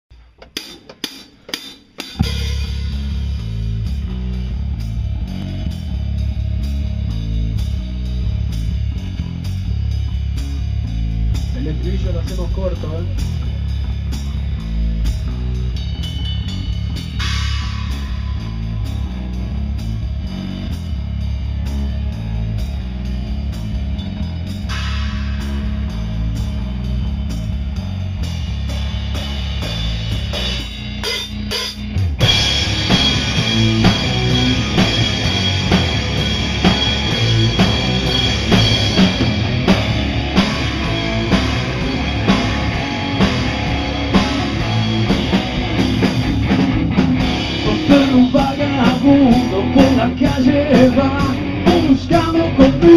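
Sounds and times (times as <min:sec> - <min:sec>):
drums: 0:00.0 - 0:52.9
bass guitar: 0:02.0 - 0:52.9
electric guitar: 0:02.2 - 0:52.9.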